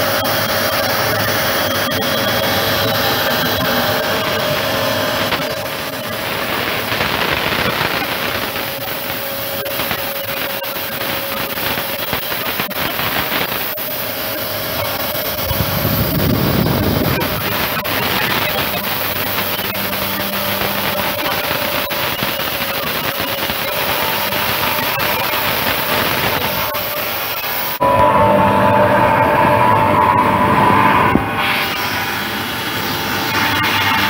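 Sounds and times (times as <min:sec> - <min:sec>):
mortising machine whining: 0:00.0 - 0:34.0.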